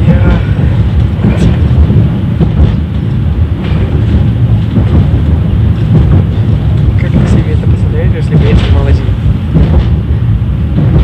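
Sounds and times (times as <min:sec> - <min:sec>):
short knocks: 0:00.0 - 0:11.0
tram wheels rumbling on rails: 0:00.0 - 0:11.0.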